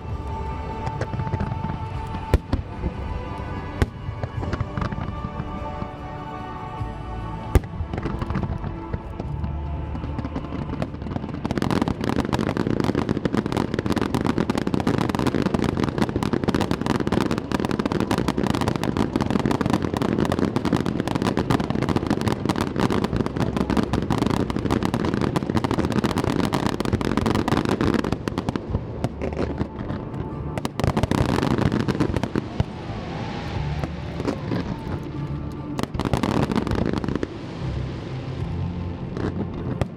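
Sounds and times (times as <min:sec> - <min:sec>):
fireworks crackling: 0:00.0 - 0:39.9
music: 0:00.0 - 0:39.9.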